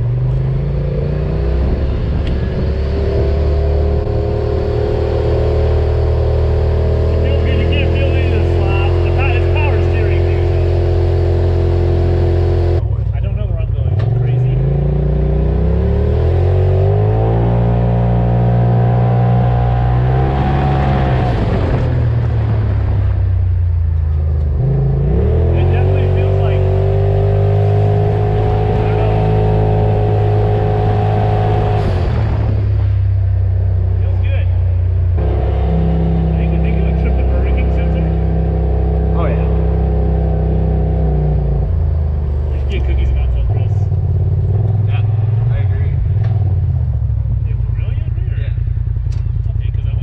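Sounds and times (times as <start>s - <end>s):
turbocharged engine running: 0.0s - 50.0s.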